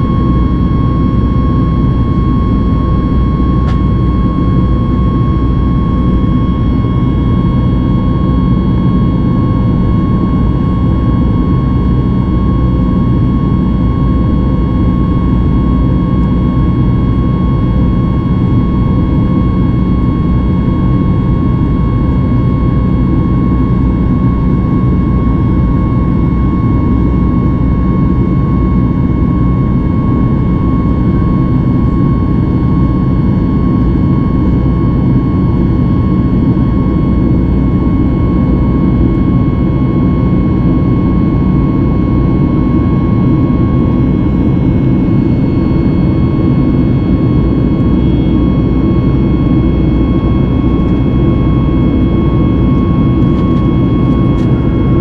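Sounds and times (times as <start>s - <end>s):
aircraft cabin engine roar: 0.0s - 55.0s
engine whine: 0.0s - 55.0s.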